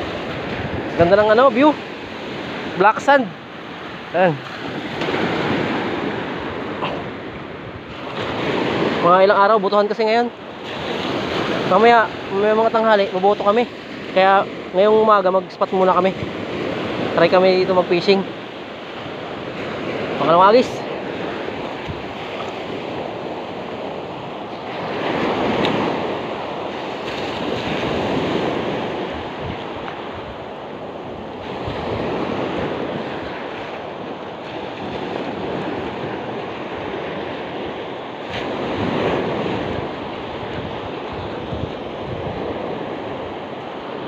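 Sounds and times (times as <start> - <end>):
sea surf breaking on beach: 0.0 - 44.0.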